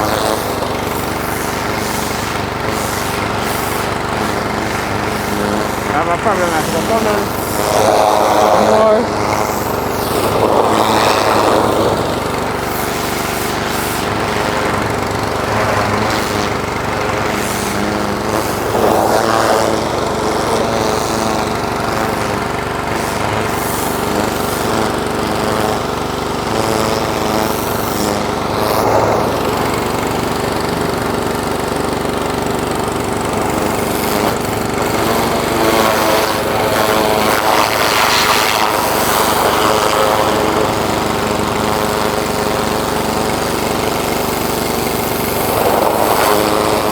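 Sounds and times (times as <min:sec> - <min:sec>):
rushing hiss of spray: 0:00.0 - 0:25.9, 0:26.5 - 0:31.6, 0:33.6 - 0:41.6, 0:43.6 - 0:46.9
pressure washer engine running: 0:00.0 - 0:46.9.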